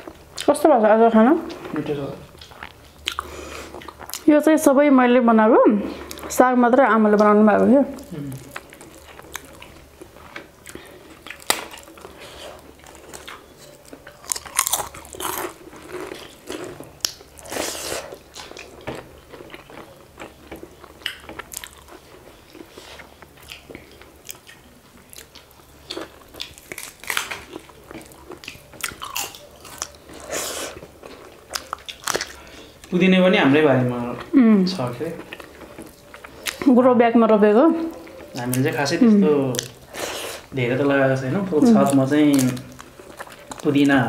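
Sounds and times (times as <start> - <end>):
people chewing and biting: 1.4 - 4.3, 7.0 - 36.9, 37.8 - 44.0.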